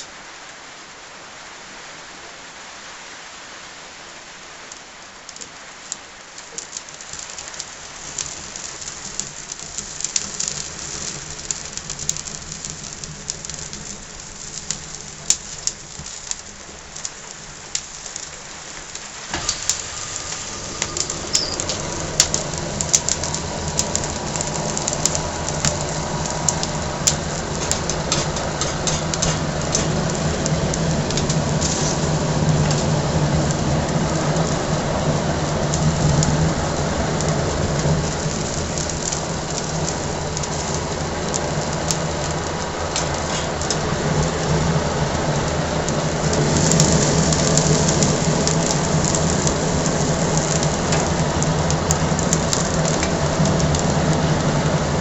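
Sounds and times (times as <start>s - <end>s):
forge fire crackling and popping: 4.3s - 55.0s
low mechanical hum: 5.7s - 55.0s.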